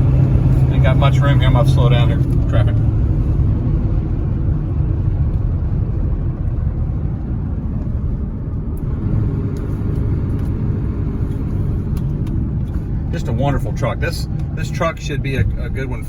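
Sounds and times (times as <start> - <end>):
diesel truck engine running: 0.0 - 16.0
road noise: 0.0 - 16.0.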